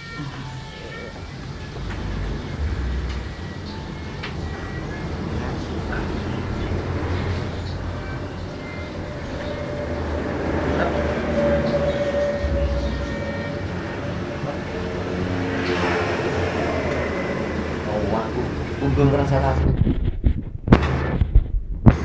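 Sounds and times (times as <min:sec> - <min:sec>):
held pitched tone: 0:00.0 - 0:19.2
low rumble of vehicles: 0:00.0 - 0:22.0.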